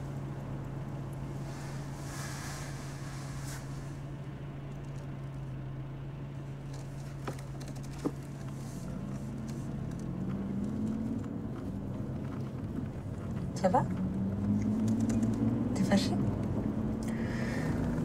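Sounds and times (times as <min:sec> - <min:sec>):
car engine and road noise: 0:00.0 - 0:18.0
higher engine note climbing: 0:00.0 - 0:18.0.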